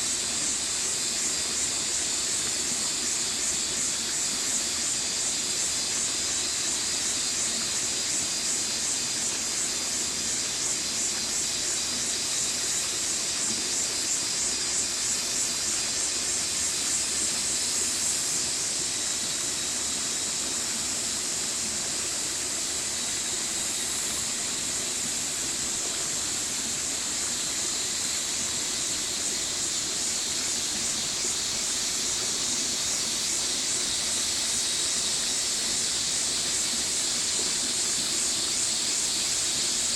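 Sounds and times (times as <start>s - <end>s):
stream water flowing: 0.1s - 39.9s.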